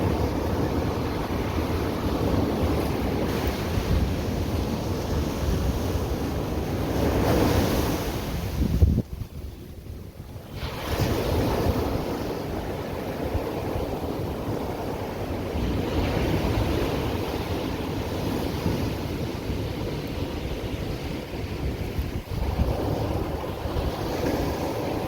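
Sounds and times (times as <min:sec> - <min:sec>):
ocean wave breaking and washing: 0:00.0 - 0:25.0
wind rumbling on microphone: 0:00.0 - 0:25.0.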